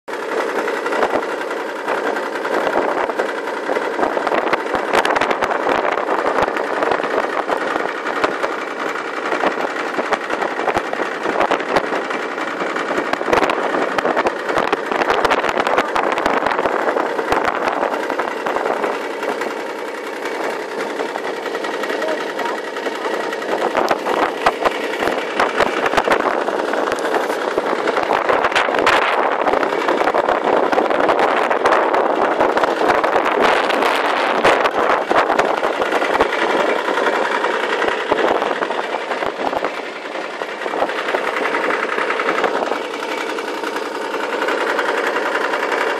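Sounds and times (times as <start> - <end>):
snowmobile engine running: 0.1 - 45.9.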